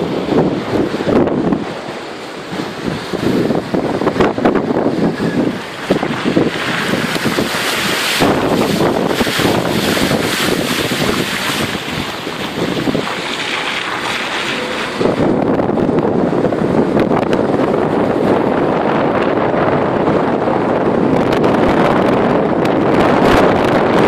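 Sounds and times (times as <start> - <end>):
floodwater washing across road: 0.0 - 22.6
wind buffeting microphone: 0.0 - 24.0.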